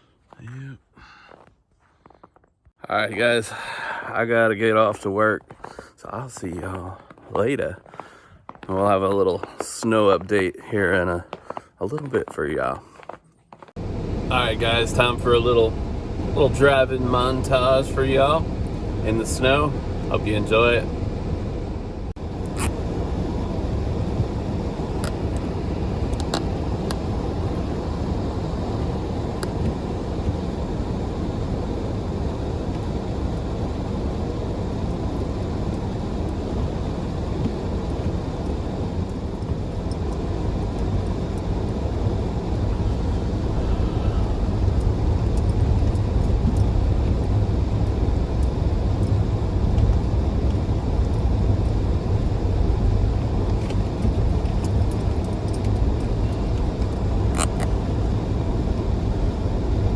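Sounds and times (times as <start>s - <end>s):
car engine and tyres rumbling: 3.2s - 59.9s.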